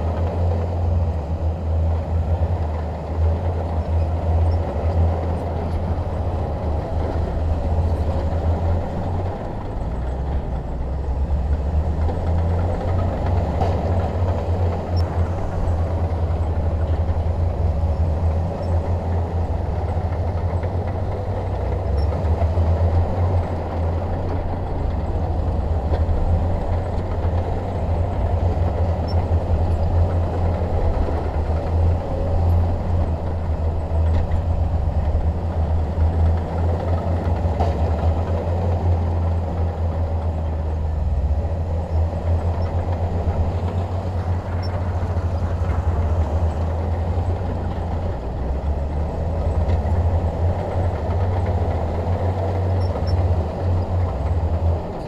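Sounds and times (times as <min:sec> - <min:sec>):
bulldozer diesel engine rumbling: 0:00.0 - 0:55.0.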